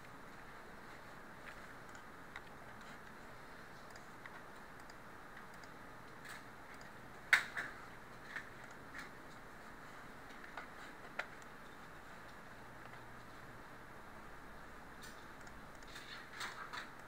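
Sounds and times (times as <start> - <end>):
faint room hiss: 0.0 - 17.0.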